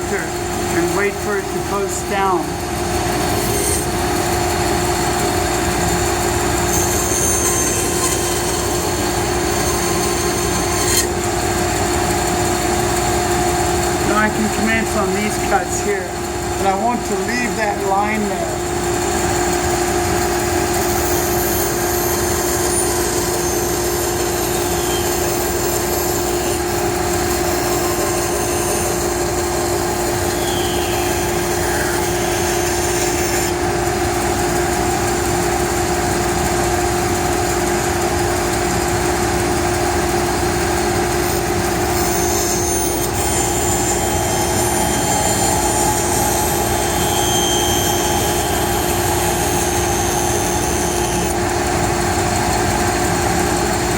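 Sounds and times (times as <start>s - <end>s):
band saw cutting wood: 0.0s - 53.9s.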